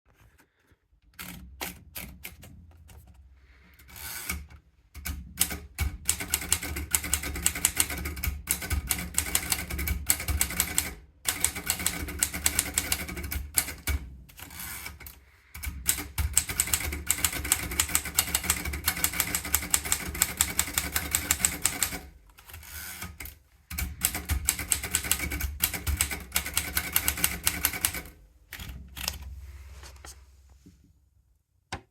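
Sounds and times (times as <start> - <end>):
manual typewriter keystrokes: 1.1 - 3.0, 3.7 - 29.2.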